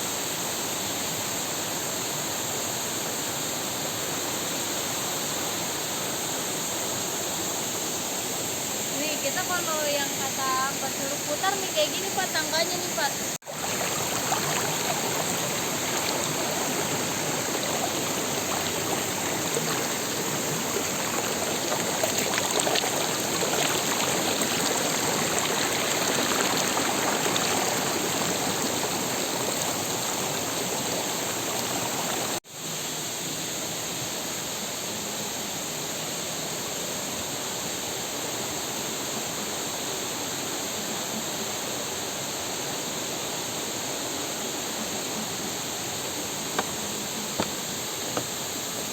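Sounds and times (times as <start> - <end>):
rushing waterfall and river: 0.0 - 32.4, 35.5 - 48.9.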